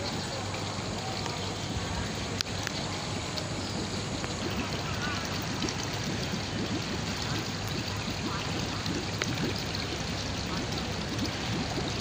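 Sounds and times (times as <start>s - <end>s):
pond water splashing and trickling: 0.0s - 12.0s.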